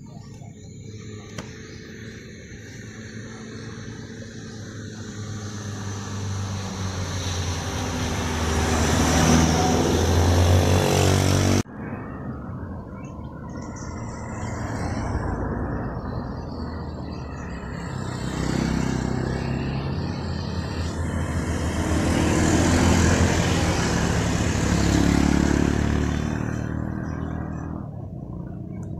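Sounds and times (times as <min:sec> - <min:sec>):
cars passing: 0:00.0 - 0:28.9
motor scooters approaching: 0:00.0 - 0:28.9.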